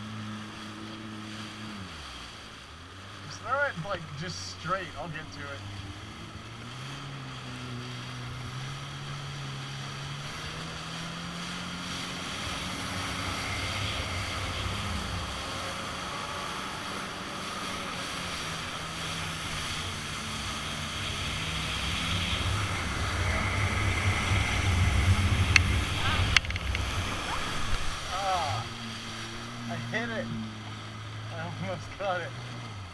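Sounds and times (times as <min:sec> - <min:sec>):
jet ski engine running: 0:00.0 - 0:32.9
water spray rushing: 0:01.1 - 0:32.9.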